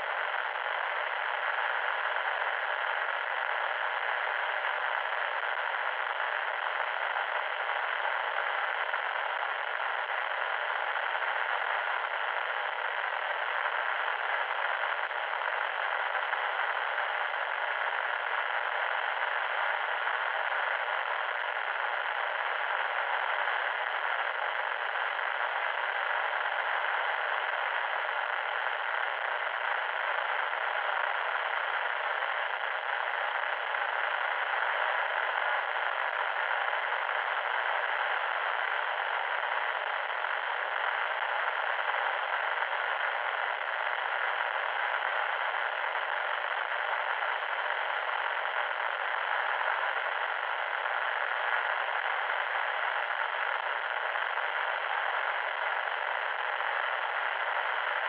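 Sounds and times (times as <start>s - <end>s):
loud static hiss: 0.0s - 58.0s.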